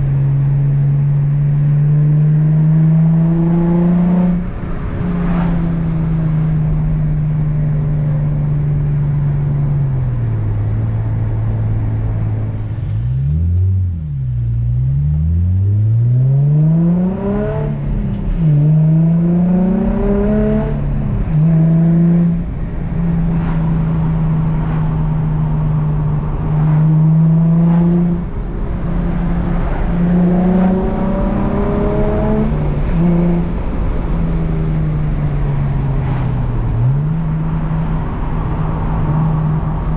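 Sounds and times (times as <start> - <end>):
car engine revving through exhaust: 0.0 - 39.9.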